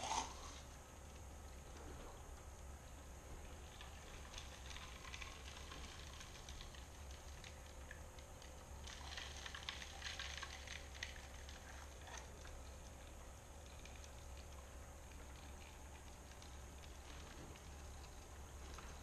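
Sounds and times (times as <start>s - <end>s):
low steady hum: 0.0s - 19.0s
sand and gravel clicking in water: 3.4s - 19.0s.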